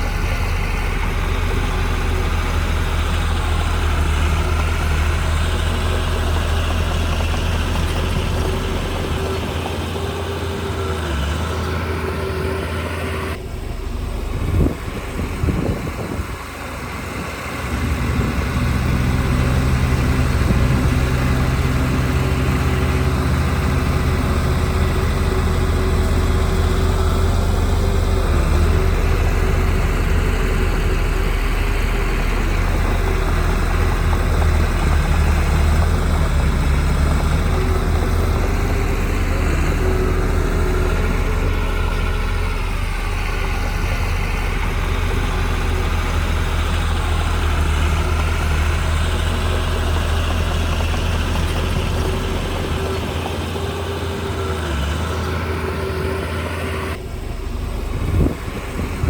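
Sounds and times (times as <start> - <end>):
diesel engine running: 0.0 - 59.0
engine knocks: 0.0 - 59.0.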